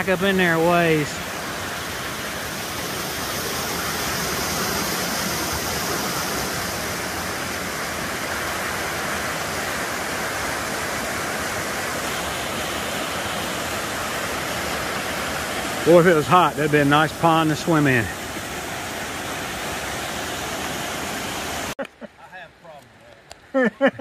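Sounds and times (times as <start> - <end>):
waterfall rushing: 0.0 - 21.8.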